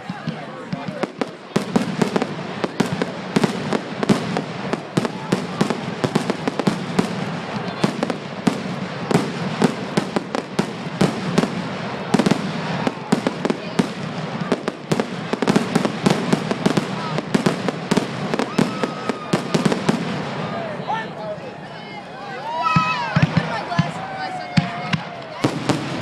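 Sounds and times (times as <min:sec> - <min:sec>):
fireworks bangs and crackles: 0:00.0 - 0:21.1, 0:22.6 - 0:26.0.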